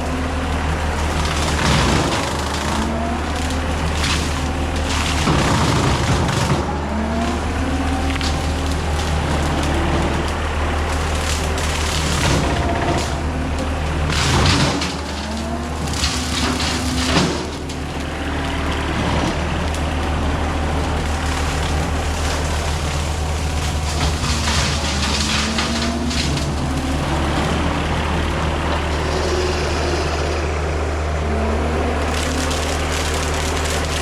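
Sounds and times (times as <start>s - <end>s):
diesel engine running under load: 0.0s - 34.0s
hydraulic whine: 0.0s - 34.0s.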